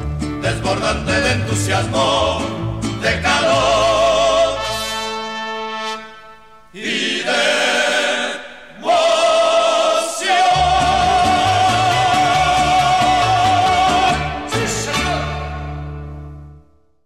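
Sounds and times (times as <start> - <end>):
mariachi-style song: 0.0 - 17.0.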